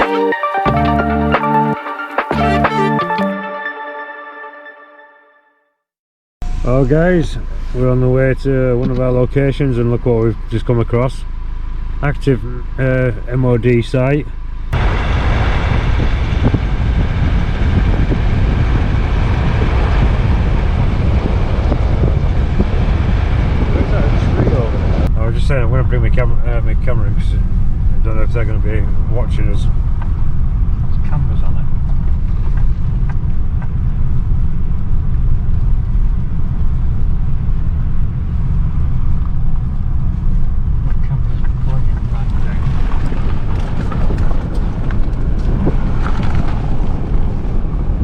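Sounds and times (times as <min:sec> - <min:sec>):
vehicle engine and road rumble: 0:06.4 - 0:48.0.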